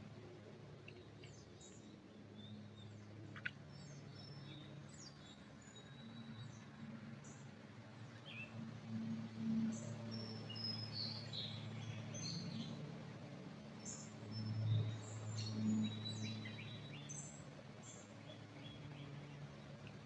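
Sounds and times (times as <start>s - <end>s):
songbirds chirping and trilling: 0.8s - 20.0s.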